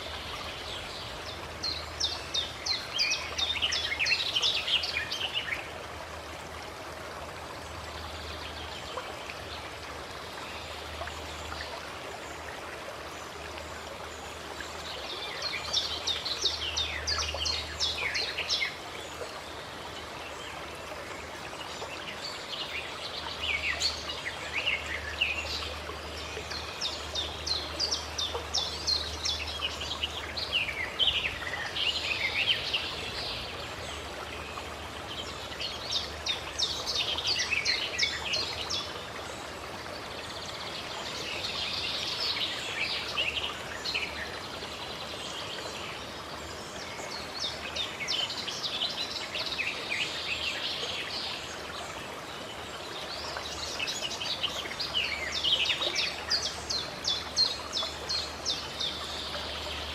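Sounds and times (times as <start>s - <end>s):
running water: 0.0s - 59.9s
songbirds chirping: 0.0s - 59.9s.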